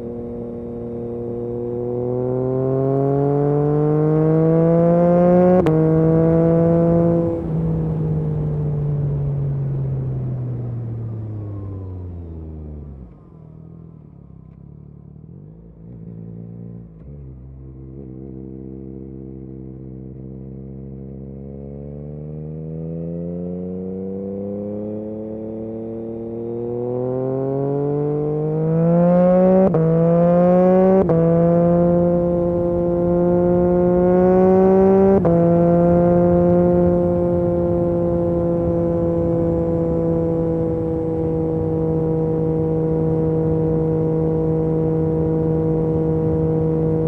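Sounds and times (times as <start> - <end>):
motorcycle engine revving: 0.0 - 9.4, 11.6 - 47.0.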